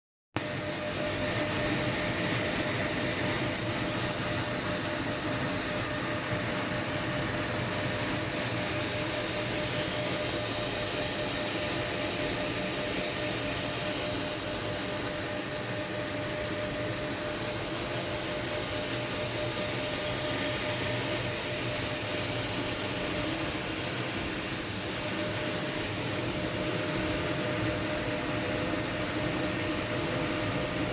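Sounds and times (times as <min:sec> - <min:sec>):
jet engines and rushing air: 0:00.5 - 0:30.9.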